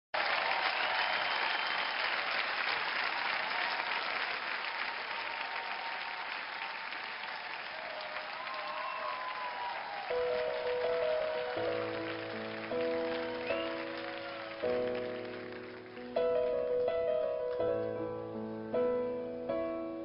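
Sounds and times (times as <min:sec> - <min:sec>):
audience applauding: 0:00.2 - 0:17.0.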